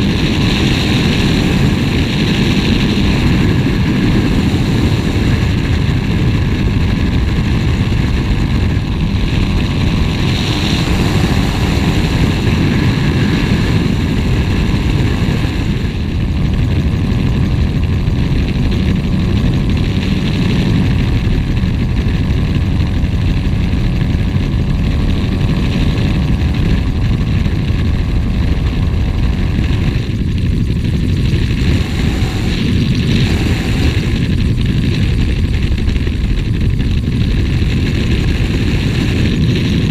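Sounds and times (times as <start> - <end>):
aircraft engine and propeller: 0.0 - 39.9
rushing air: 0.0 - 39.9.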